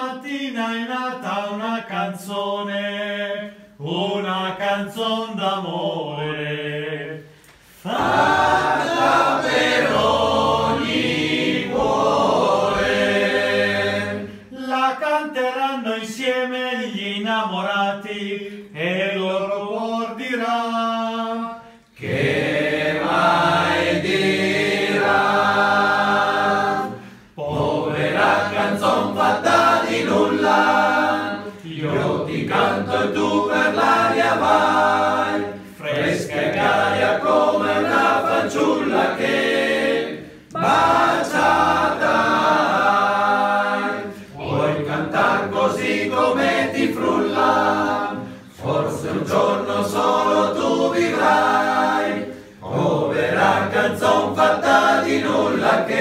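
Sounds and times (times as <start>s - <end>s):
men singing unaccompanied: 0.0s - 7.2s, 7.9s - 56.0s.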